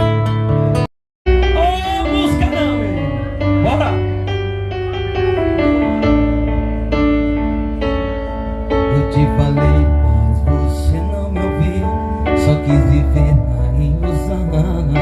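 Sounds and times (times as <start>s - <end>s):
electric piano chords and melody: 0.0s - 15.0s
steady bass: 0.0s - 15.0s.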